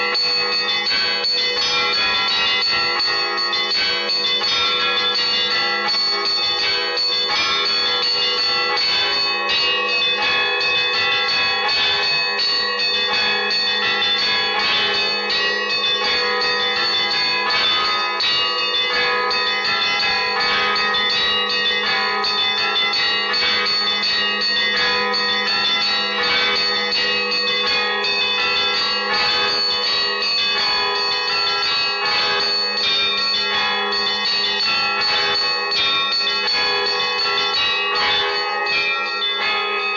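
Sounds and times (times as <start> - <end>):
small church bells ringing rapidly: 0.0 - 39.9.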